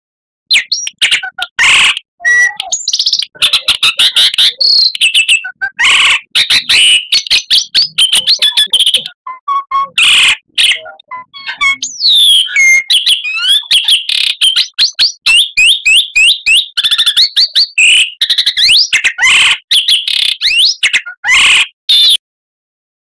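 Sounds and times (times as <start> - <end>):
bird whistled song and trills: 0.5 - 22.2.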